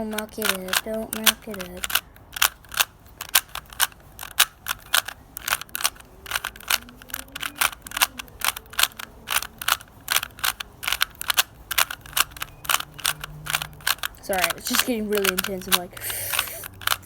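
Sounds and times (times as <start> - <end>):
puzzle cube clicking: 0.0 - 17.0.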